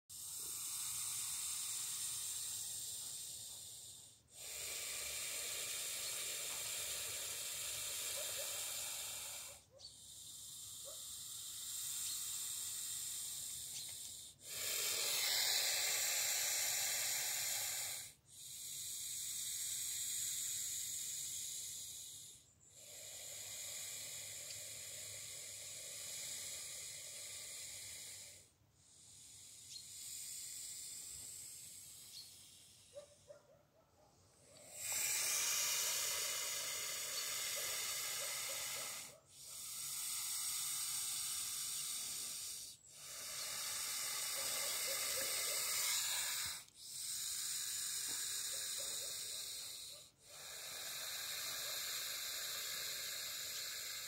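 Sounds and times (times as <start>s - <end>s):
snake hissing: 0.0s - 33.3s, 34.3s - 54.0s.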